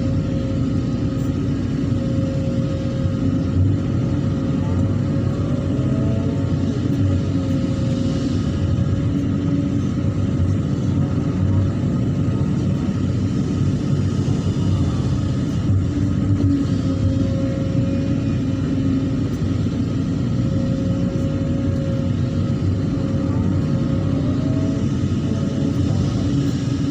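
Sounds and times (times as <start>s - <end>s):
excavator diesel engine running: 0.0s - 26.9s
hydraulic whine: 0.0s - 26.9s.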